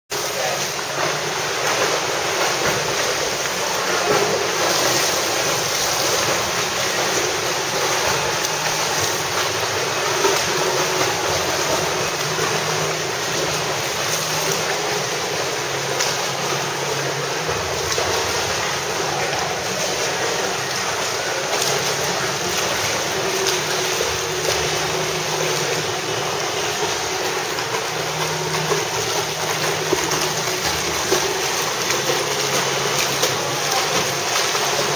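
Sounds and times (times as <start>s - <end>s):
swimmers splashing: 0.2s - 34.9s.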